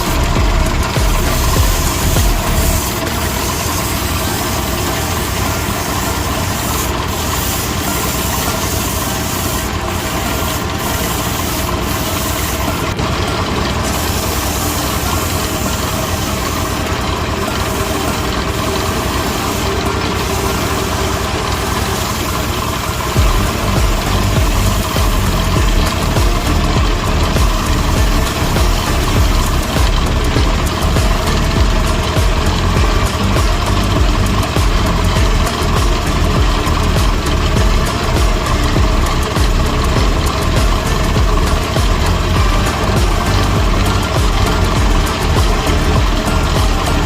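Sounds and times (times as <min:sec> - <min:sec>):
power tool running: 0:00.0 - 0:47.0.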